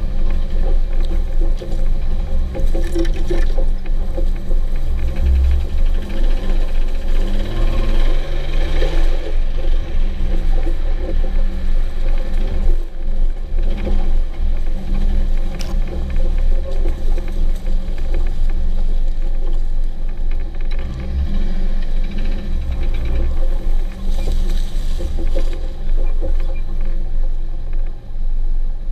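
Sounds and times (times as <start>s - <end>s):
car engine rumbling: 0.0s - 28.9s.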